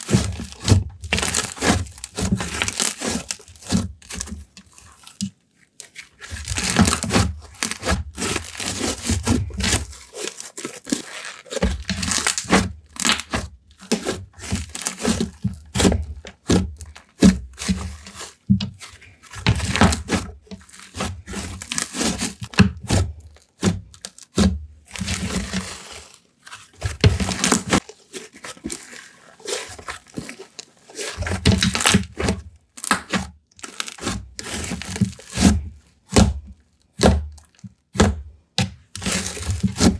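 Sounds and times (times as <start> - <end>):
slime crackling and squishing: 0.0 - 39.9.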